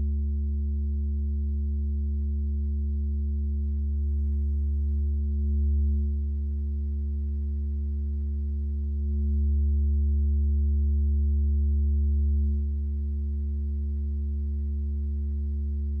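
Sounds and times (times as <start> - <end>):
low synthesized electronic drone: 1.9 - 16.0.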